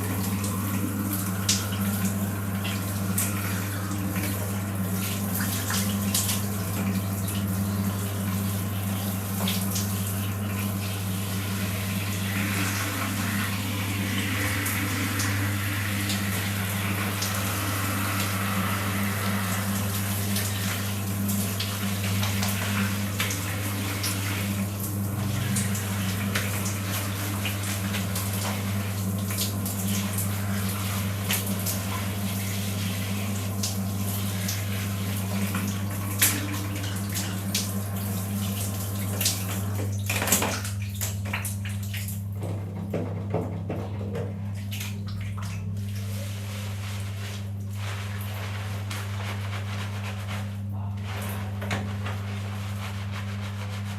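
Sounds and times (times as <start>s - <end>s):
water running and splashing: 0.0s - 42.3s, 44.6s - 53.9s
low electrical hum: 0.0s - 53.9s.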